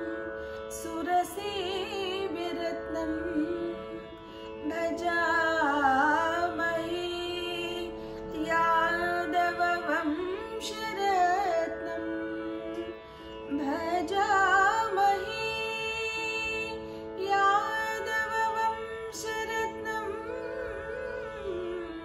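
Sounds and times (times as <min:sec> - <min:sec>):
woman singing: 0:00.0 - 0:22.0.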